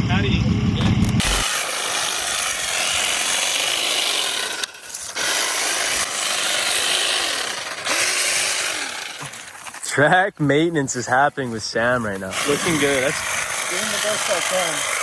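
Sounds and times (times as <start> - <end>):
hand tool scraping dirt: 1.2 - 15.0.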